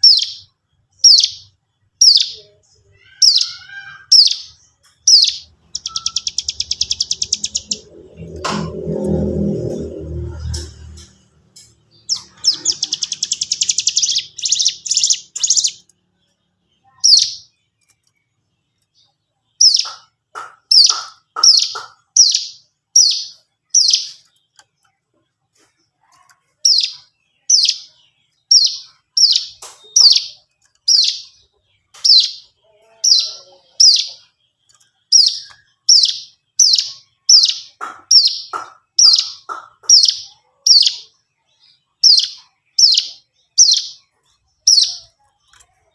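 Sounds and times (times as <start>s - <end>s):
bird trill: 0.0s - 18.0s, 18.8s - 24.9s, 25.6s - 45.9s.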